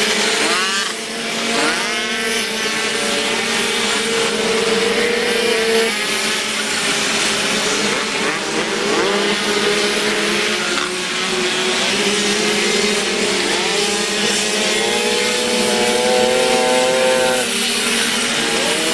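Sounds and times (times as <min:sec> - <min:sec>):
moped engines revving: 0:00.0 - 0:18.9.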